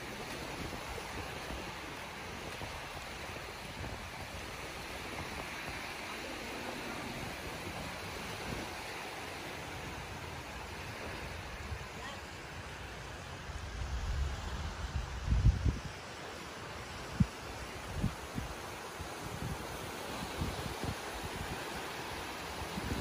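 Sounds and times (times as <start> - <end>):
small waves on a beach: 0.0 - 23.0.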